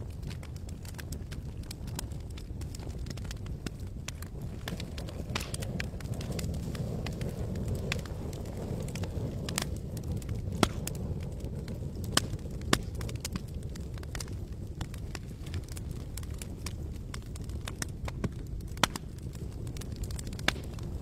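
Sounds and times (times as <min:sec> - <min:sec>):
campfire crackling: 0:00.0 - 0:21.0
low rumble of flames: 0:00.0 - 0:21.0.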